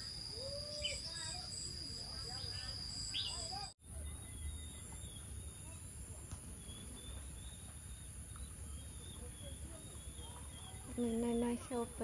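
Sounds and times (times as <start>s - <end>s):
faint bird chirps: 0.0s - 11.9s
faint distant voices: 0.0s - 12.0s.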